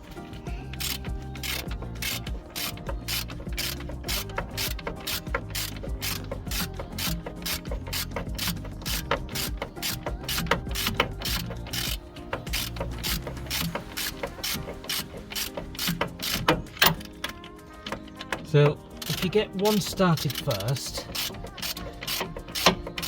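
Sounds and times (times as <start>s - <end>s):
hand ratchet clicking: 0.0s - 23.0s.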